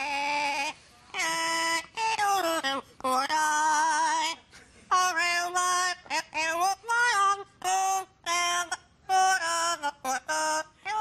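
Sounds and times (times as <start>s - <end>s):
parrot singing: 0.0s - 11.0s.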